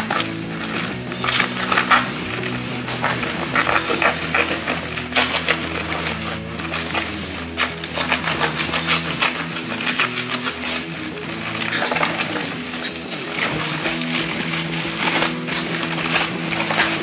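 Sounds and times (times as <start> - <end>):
background music: 0.0 - 17.0
plastic bag tearing and crinkling: 0.0 - 17.0.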